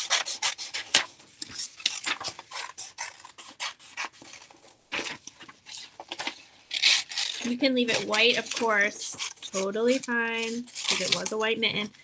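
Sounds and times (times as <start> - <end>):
scissors snipping paper: 0.0 - 11.9.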